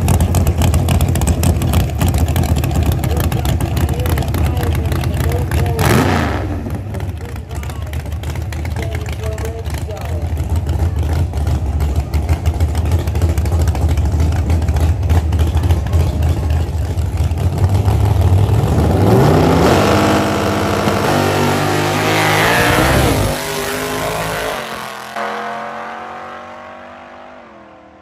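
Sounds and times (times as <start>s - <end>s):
drag racing car engines: 0.0s - 28.0s.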